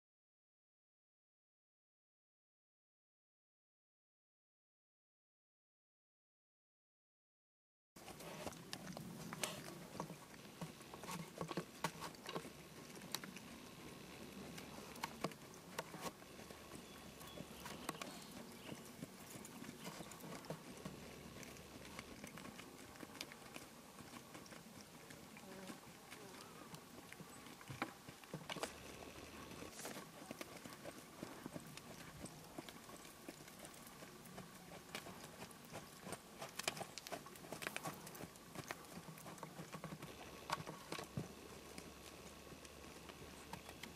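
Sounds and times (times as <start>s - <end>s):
horse hoofbeats on dirt: 8.0s - 43.9s.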